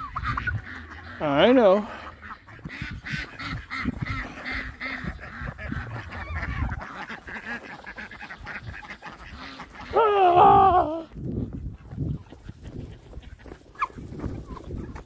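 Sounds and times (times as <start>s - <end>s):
chickens clucking: 0.0s - 15.0s
ducks quacking: 0.0s - 15.0s.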